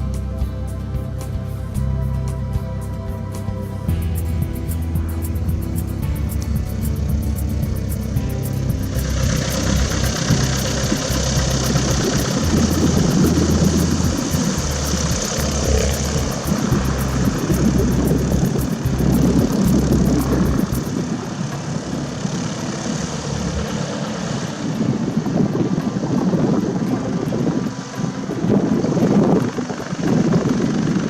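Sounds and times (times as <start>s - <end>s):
music with steady beat: 0.0s - 31.0s
propeller plane engine running: 0.0s - 31.0s
wind buffeting microphone: 3.3s - 31.0s.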